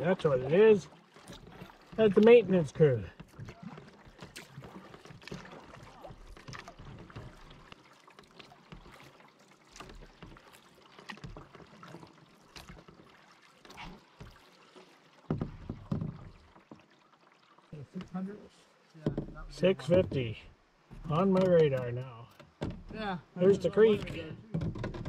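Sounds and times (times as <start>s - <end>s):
canoe bump: 0.0s - 17.1s, 17.8s - 25.0s
paddle splashes and drips: 0.0s - 25.0s.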